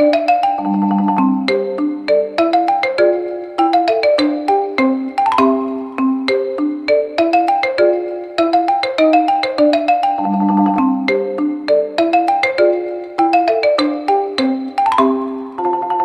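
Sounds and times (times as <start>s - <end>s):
marimba-like melody: 0.0s - 16.0s.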